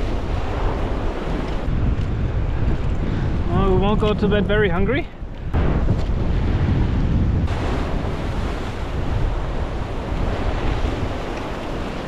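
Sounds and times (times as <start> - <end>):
ocean surf washing in: 0.0 - 12.0
wind buffeting microphone: 0.0 - 12.0.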